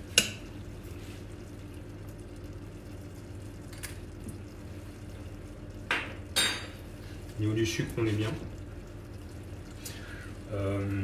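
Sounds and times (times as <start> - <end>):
compote simmering in saucepan: 0.0 - 11.0
low steady hum: 0.0 - 11.0.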